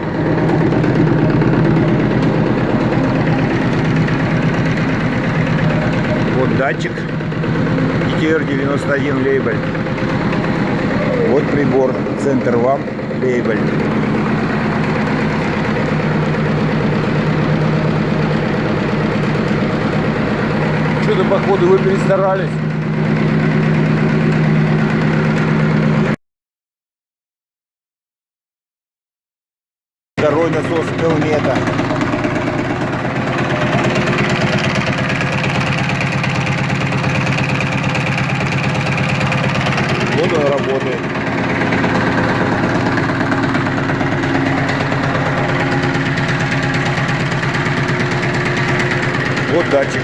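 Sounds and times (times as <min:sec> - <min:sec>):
vacuum pump pulsing: 0:00.0 - 0:26.2, 0:30.2 - 0:50.0.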